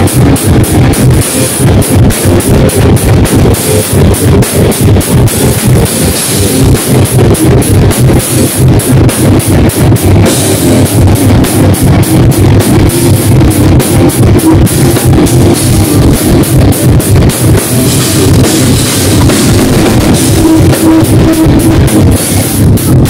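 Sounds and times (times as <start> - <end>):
metal band playing live: 0.0 - 23.0.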